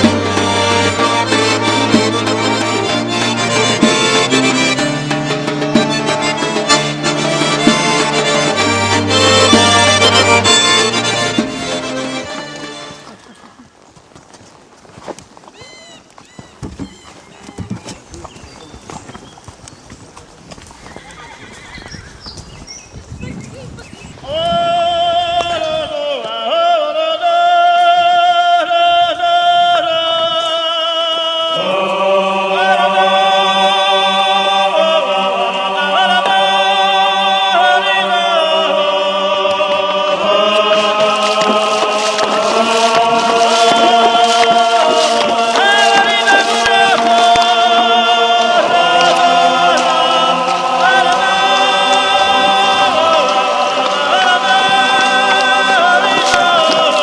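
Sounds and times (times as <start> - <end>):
choir-like voices singing: 0.0 - 13.1, 24.2 - 57.0.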